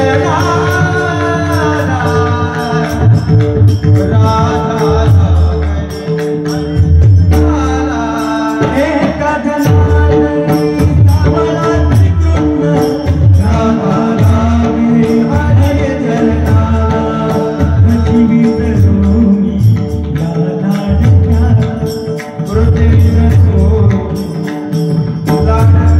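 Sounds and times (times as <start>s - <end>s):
jingling hand cymbals: 0.0s - 25.9s
man singing: 0.0s - 25.9s.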